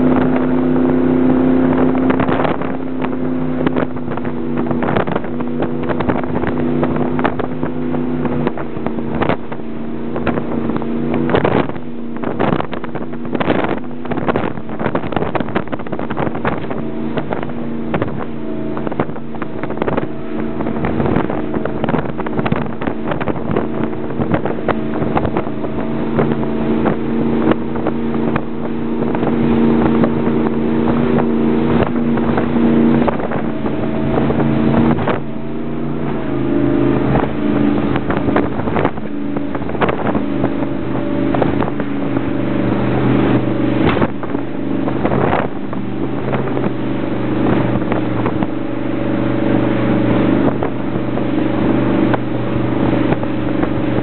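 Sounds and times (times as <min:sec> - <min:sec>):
boat engine running: 0:00.0 - 0:54.0
water splashing against hull: 0:00.0 - 0:54.0.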